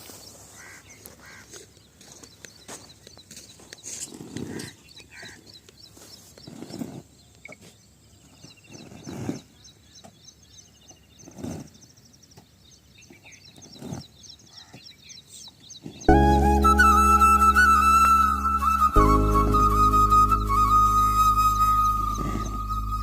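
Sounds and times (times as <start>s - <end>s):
small birds chirping: 0.0s - 17.0s, 20.3s - 23.0s.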